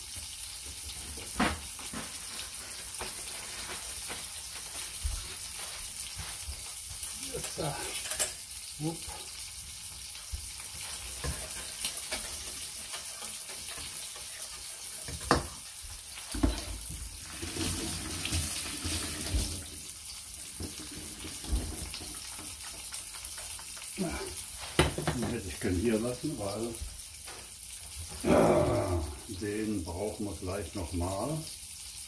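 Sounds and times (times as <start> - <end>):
frying pan sizzling: 0.0 - 32.0.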